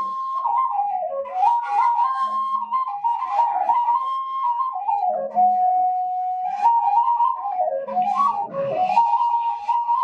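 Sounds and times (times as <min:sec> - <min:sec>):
bamboo flute melody: 0:00.0 - 0:10.0.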